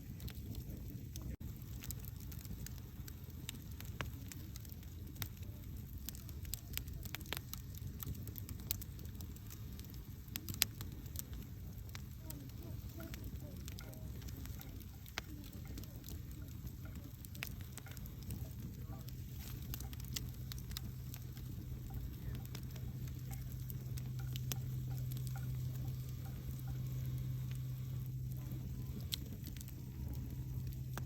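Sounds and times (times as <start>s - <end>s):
campfire crackling and popping: 0.0s - 31.0s
low rumble: 0.0s - 31.0s
steady low hum: 0.0s - 31.0s.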